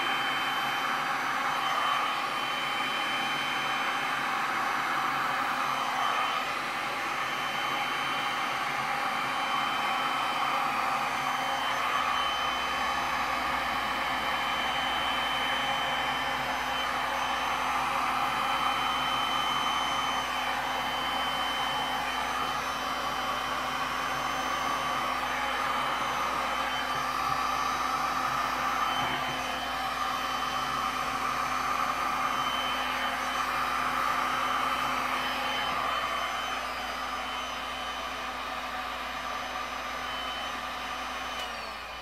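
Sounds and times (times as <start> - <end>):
heat gun blowing air: 0.0 - 42.0.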